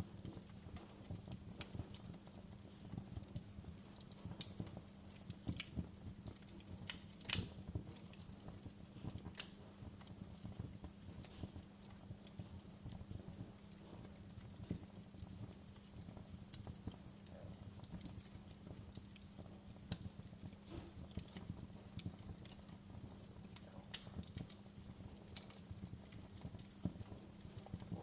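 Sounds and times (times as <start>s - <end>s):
low steady hum: 0.0s - 28.0s
wood fire crackling: 0.0s - 28.0s.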